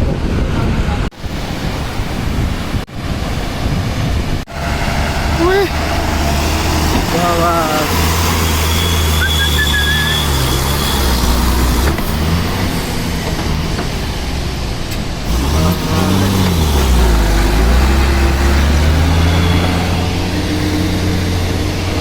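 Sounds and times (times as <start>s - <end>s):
truck engine running: 0.2s - 22.0s.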